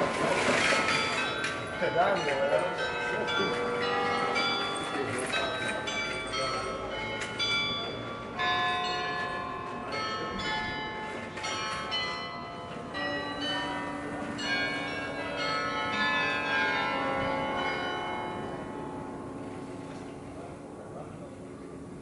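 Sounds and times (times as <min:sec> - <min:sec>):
church bells ringing: 0:00.0 - 0:20.8.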